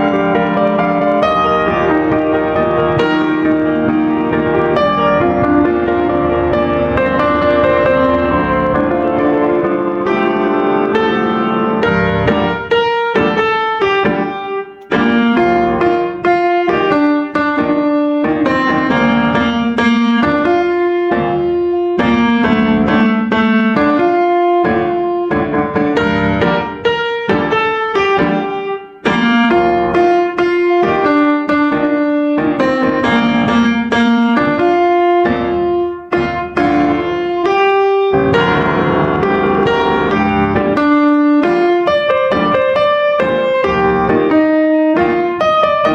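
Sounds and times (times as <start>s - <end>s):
gentle piano melody: 0.0s - 45.9s.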